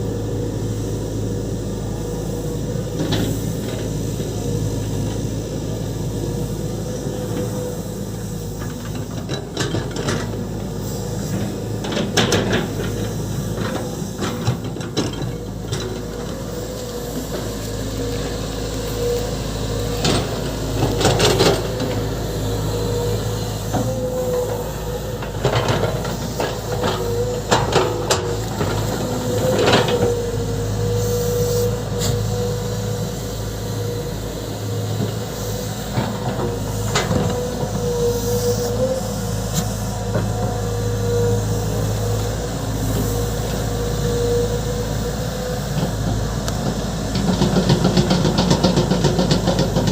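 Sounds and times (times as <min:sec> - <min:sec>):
excavator diesel engine running: 0:00.0 - 0:49.9
hydraulic whine: 0:00.0 - 0:49.9.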